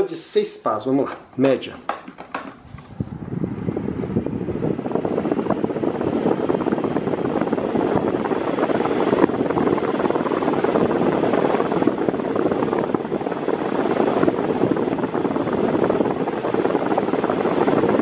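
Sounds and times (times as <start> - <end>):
airflow buffeting microphone: 0.0 - 18.0
floor fan running: 0.0 - 18.0.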